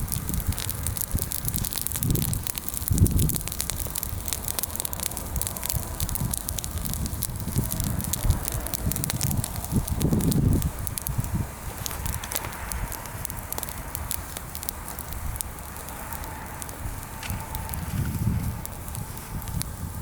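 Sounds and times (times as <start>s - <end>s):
fire crackling and popping: 0.0s - 20.0s
low fire rumble: 0.0s - 20.0s.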